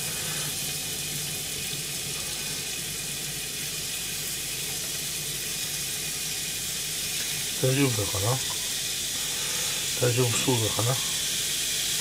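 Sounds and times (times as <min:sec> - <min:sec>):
beef sizzling in a frying pan: 0:00.0 - 0:12.0.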